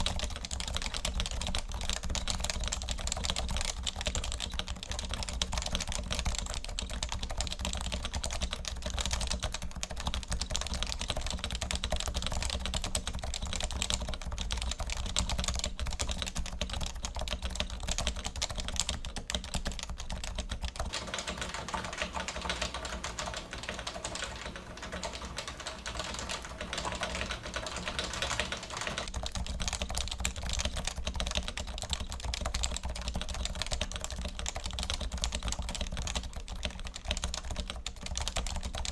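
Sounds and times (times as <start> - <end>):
fast keyboard typing clatter: 0.0 - 38.9.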